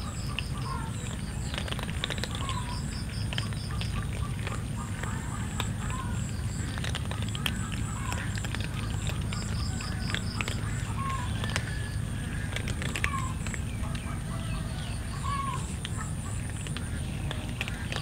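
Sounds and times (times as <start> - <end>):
cat chirping calls: 0.0 - 18.0
cats crunching dry kibble: 0.0 - 18.0
low background hum: 0.0 - 18.0.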